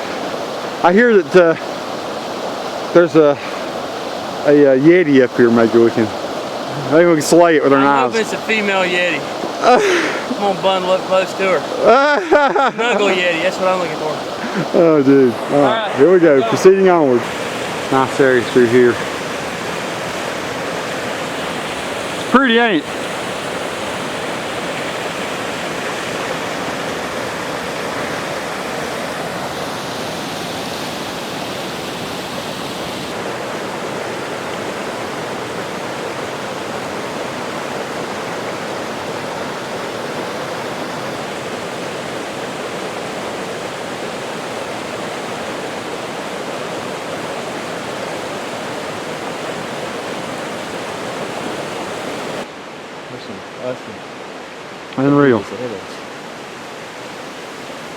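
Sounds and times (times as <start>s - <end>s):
creek rushing over waterfalls: 0.0s - 57.9s.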